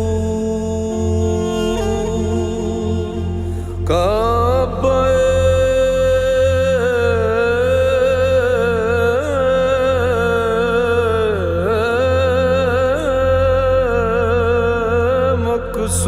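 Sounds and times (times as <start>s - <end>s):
person singing long note: 0.0s - 16.0s.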